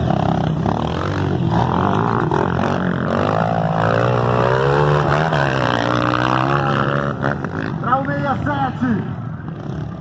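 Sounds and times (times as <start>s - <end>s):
motocross bike engines: 0.0s - 10.0s.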